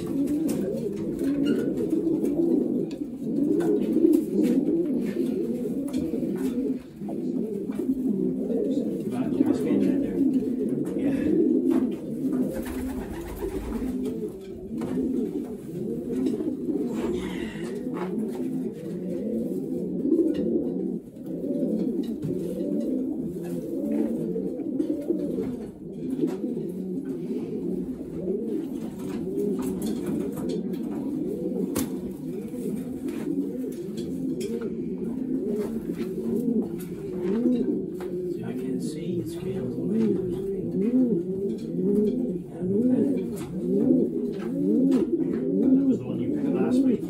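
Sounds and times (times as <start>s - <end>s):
pigeons cooing: 0.0s - 47.0s.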